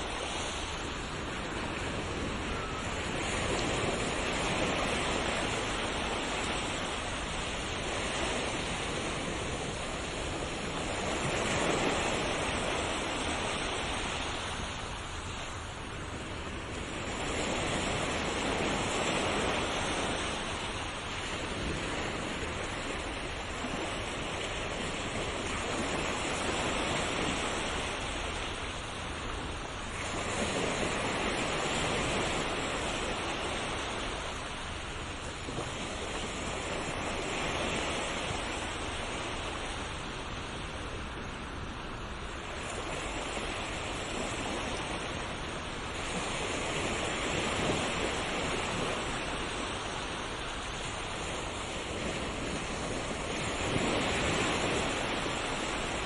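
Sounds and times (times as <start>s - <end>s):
sea waves surf: 0.0s - 56.0s.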